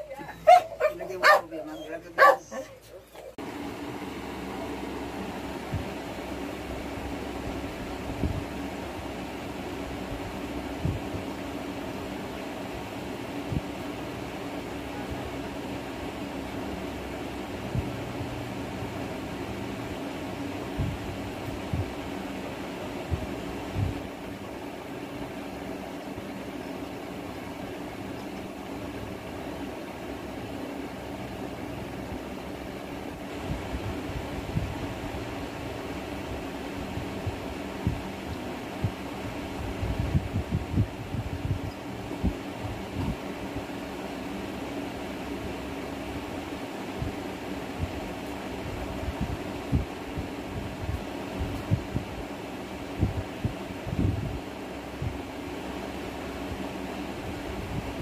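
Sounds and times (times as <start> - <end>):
machine humming: 0.0 - 50.4.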